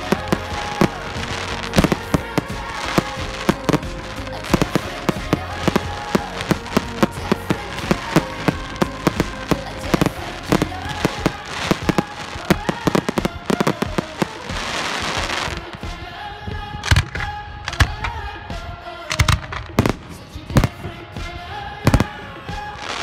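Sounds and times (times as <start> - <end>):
fireworks bangs and pops: 0.0 - 16.1, 16.8 - 23.0
fireworks crackling: 0.0 - 23.0.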